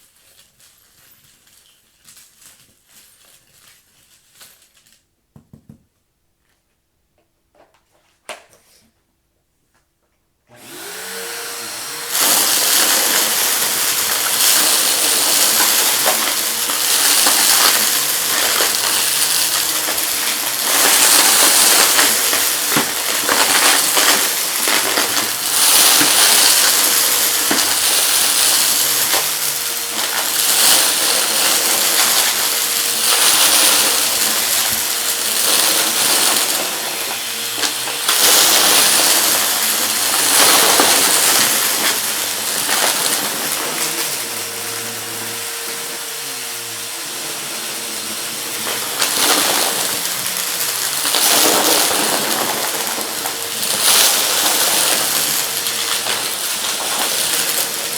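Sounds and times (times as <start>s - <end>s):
debris rattling through vacuum: 10.5s - 57.9s
vacuum cleaner running: 10.5s - 57.9s.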